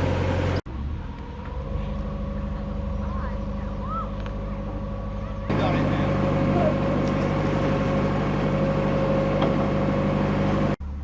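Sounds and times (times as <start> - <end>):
diesel engine running: 0.0 - 11.0
quiet engine hum: 0.0 - 11.0.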